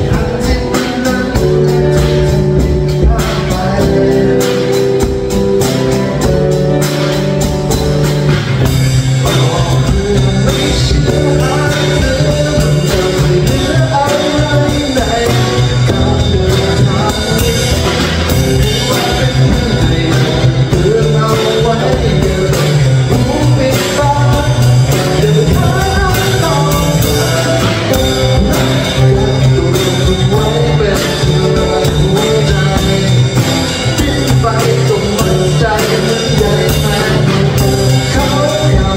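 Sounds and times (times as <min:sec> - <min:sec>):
man singing into a microphone: 0:00.0 - 0:06.3, 0:08.6 - 0:38.9
acoustic guitars strummed: 0:00.0 - 0:38.9
drum kit beat: 0:00.0 - 0:38.9.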